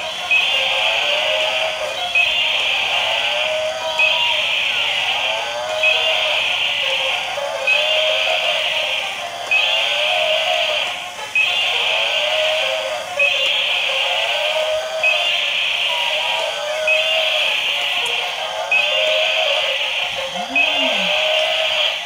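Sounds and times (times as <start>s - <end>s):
toy electronic sound effect: 0.0s - 22.0s.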